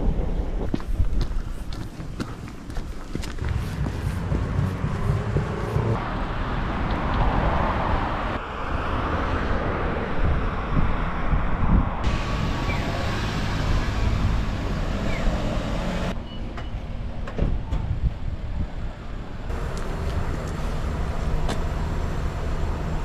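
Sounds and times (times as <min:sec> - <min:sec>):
wind rumble on microphone: 0:00.0 - 0:15.2, 0:17.3 - 0:21.9
road traffic passing: 0:00.0 - 0:17.4, 0:18.1 - 0:23.0.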